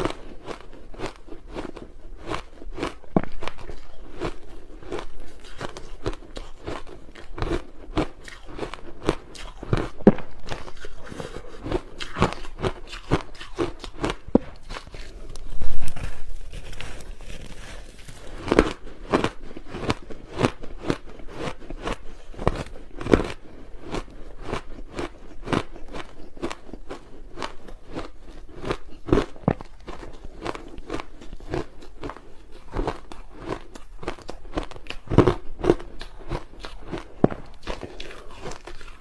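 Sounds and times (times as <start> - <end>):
ice being crunched by chewing: 0.0 - 39.0.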